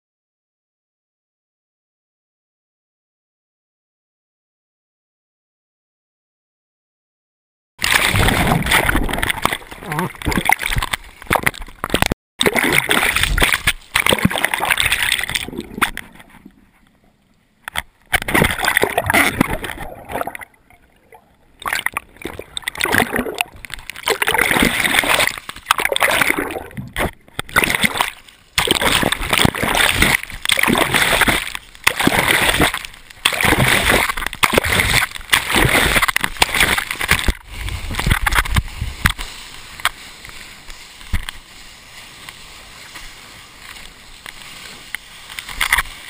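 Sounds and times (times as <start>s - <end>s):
water splashing and sloshing: 7.8s - 46.0s.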